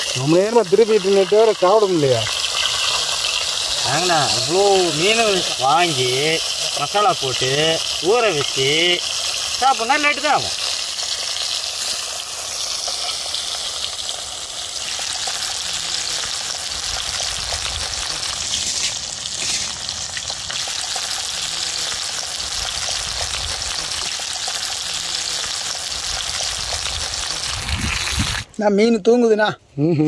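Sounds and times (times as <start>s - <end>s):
fish sizzling on a griddle: 0.0s - 28.5s.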